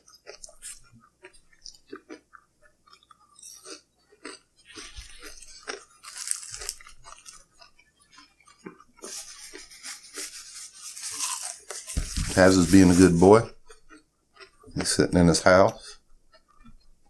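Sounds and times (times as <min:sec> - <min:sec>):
crunchy food being bitten: 0:00.0 - 0:15.1
moist chewing: 0:00.0 - 0:17.0.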